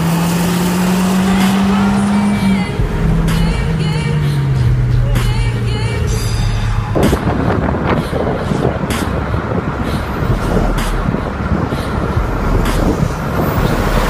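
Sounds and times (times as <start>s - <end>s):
cars driving along road: 0.0s - 14.0s.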